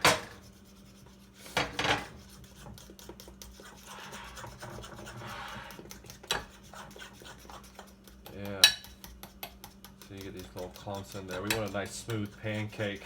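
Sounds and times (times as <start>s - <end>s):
utensil stirring batter in bowl: 0.0s - 13.0s.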